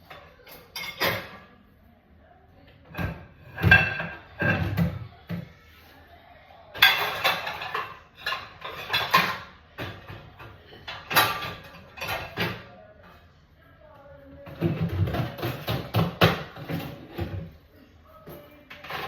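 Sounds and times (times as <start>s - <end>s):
dishes and cutlery clattering: 0.0s - 1.6s, 2.8s - 5.6s, 6.7s - 13.3s, 14.3s - 19.0s.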